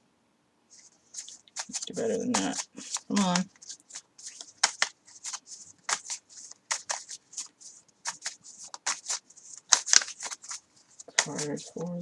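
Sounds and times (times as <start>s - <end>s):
cards being shuffled: 0.8s - 12.0s.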